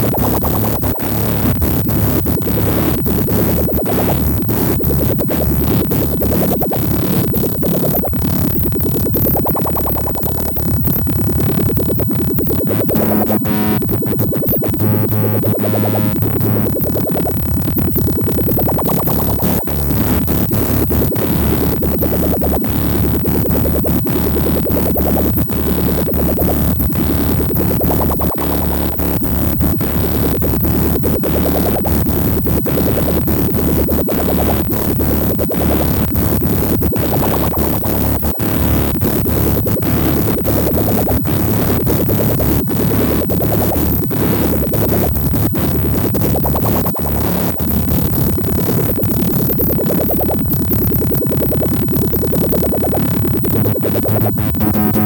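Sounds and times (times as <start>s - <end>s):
sustained synth bass: 0.0s - 55.0s.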